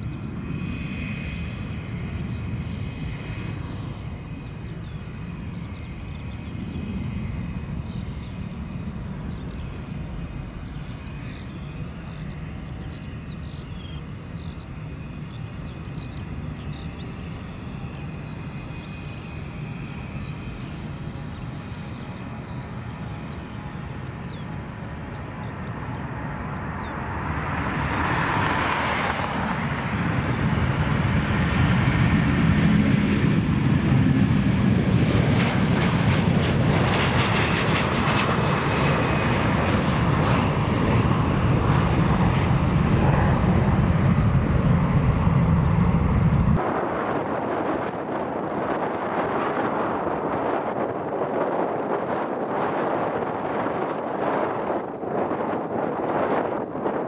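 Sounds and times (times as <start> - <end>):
distant jet airliner rumble: 0.0 - 57.0
jet engine noise: 0.0 - 57.0.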